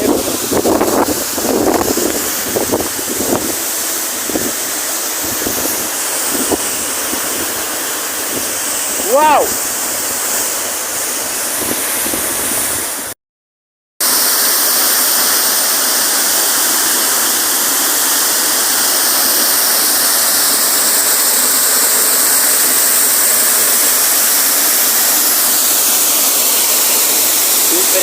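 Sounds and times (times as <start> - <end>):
waterfall roaring: 0.0 - 13.1, 14.0 - 28.0.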